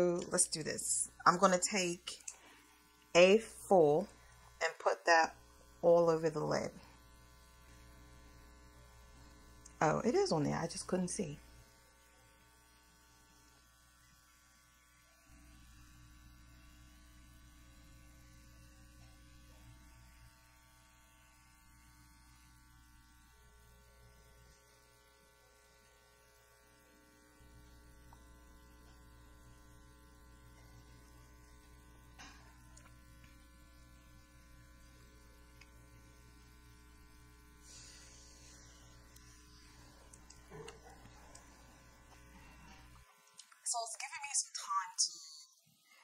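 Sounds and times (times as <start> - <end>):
faint electrical hum: 0.0 - 46.0.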